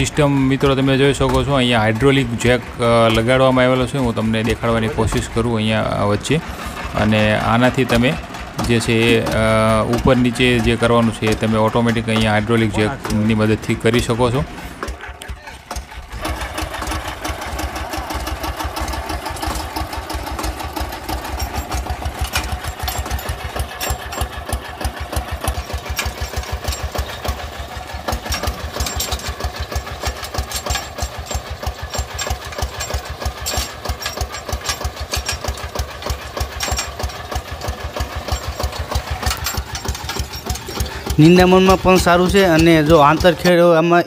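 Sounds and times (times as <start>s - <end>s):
diesel tractor engine running: 0.0s - 44.0s.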